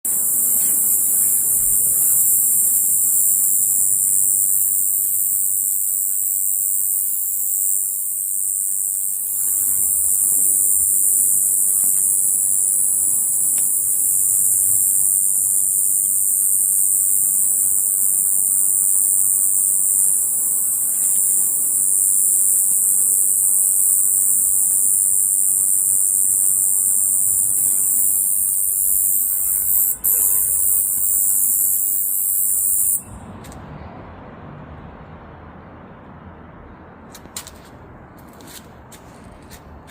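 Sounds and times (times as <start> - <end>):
cicadas buzzing: 0.0 - 33.4.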